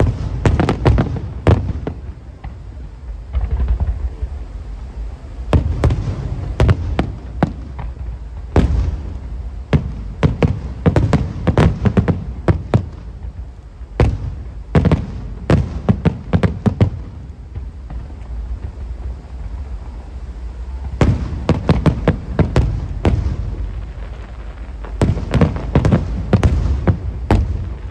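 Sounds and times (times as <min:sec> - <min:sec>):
fireworks bursting with sharp bangs: 0:00.0 - 0:27.9.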